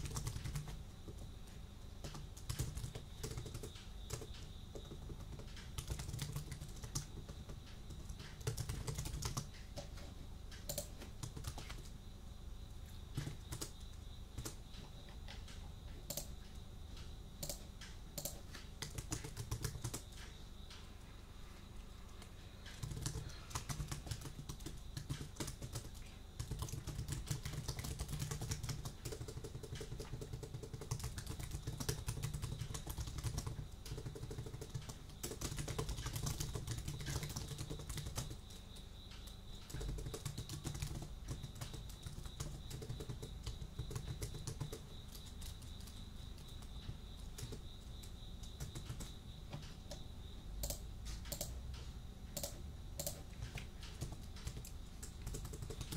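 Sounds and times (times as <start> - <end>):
keyboard typing clicks: 0.0 - 1.2, 2.0 - 11.9, 14.4 - 20.8, 22.1 - 50.0, 50.6 - 51.6, 52.3 - 55.9.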